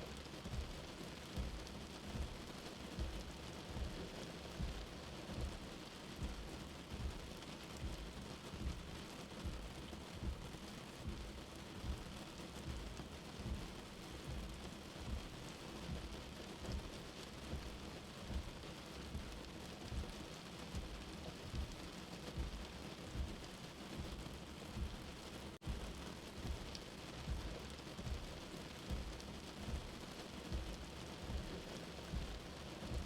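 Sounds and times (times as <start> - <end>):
steady rain: 0.0 - 33.0
soft heartbeat thudding: 0.2 - 33.0.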